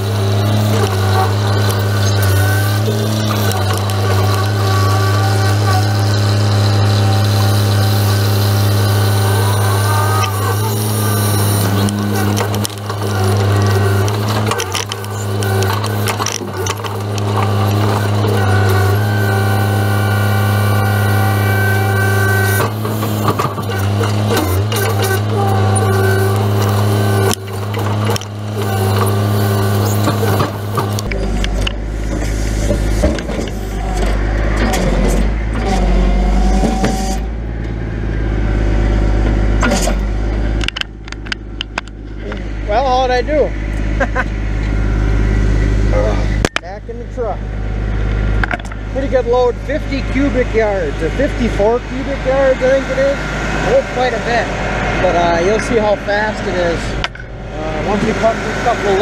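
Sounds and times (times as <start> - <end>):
truck engine and hydraulics humming: 0.0 - 59.0.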